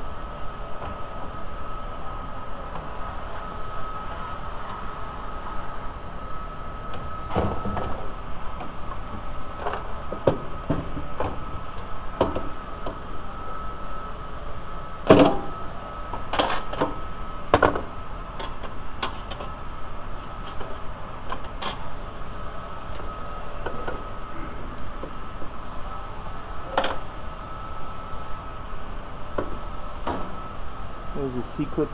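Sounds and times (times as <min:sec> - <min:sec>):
steady high hum: 0:00.0 - 0:31.9.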